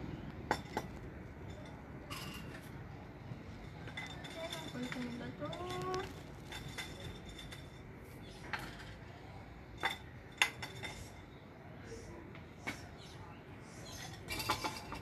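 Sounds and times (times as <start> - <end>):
clay flowerpots clinking: 0.0 - 11.4, 13.7 - 15.0.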